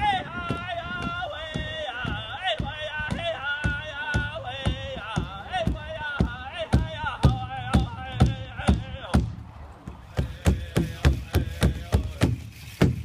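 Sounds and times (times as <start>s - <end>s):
people singing: 0.0s - 9.4s, 10.0s - 12.4s
drum beating: 0.0s - 13.0s.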